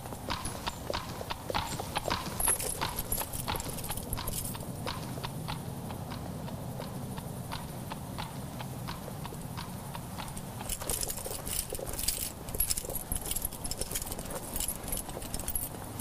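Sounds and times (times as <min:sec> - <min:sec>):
horse hooves clip-clopping: 0:00.0 - 0:16.0
rapid metallic jingling: 0:00.0 - 0:16.0.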